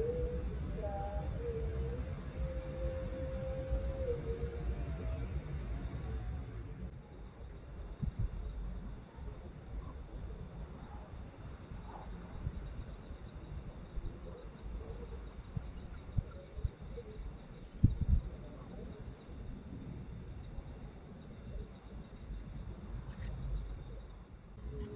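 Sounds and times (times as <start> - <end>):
insects trilling: 0.0 - 24.9.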